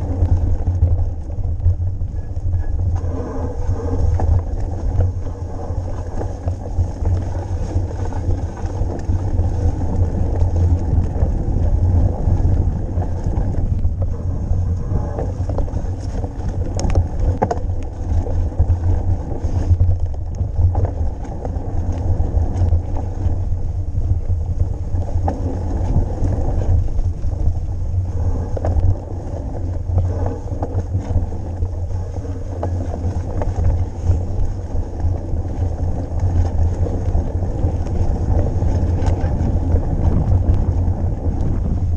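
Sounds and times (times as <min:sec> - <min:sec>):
bike clicks and rattles: 0:00.0 - 0:41.9
tyres rumbling over trail: 0:00.0 - 0:41.9
wind buffeting microphone: 0:00.0 - 0:41.9.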